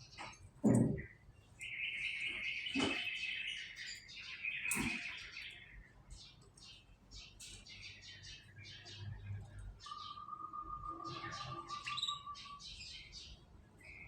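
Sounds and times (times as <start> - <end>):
canary singing: 1.0 - 14.0.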